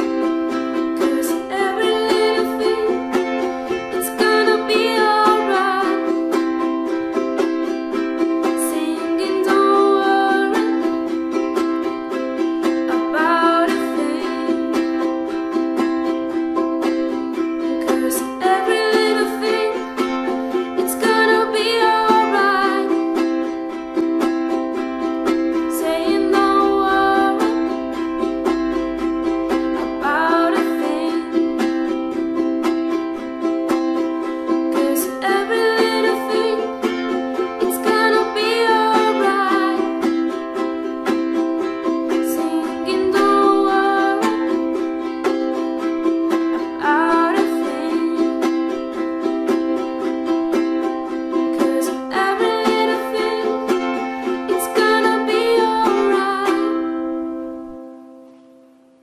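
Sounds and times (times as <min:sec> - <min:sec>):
person singing: 0:00.0 - 0:57.7
ukulele strumming: 0:00.0 - 0:59.0.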